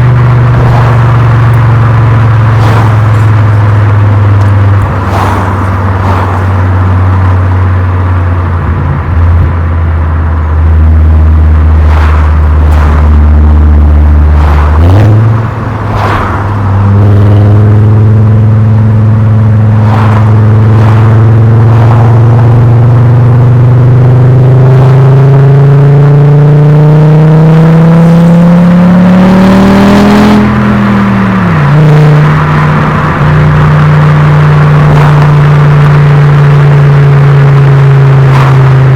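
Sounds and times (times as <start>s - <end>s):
car engine exhaust drone: 0.0s - 38.9s.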